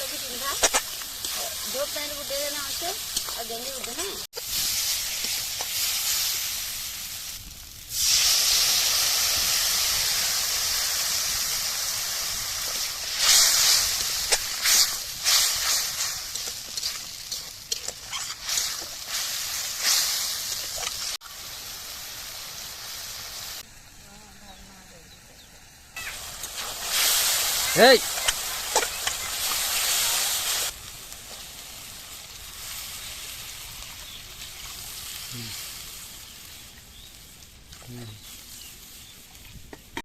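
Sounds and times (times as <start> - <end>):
oil crackling and spattering: 0.0 - 23.6, 26.0 - 40.0
food sizzling in oil: 0.0 - 24.0, 25.1 - 40.0.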